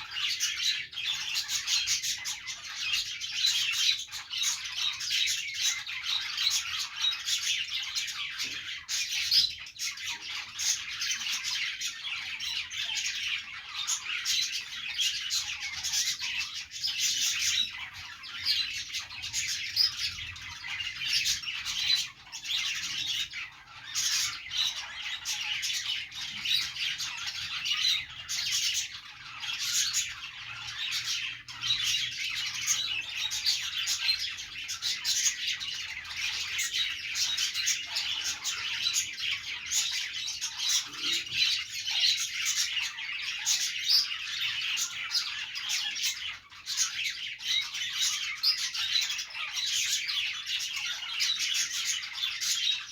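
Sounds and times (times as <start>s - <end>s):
budgies chattering: 0.0s - 52.9s.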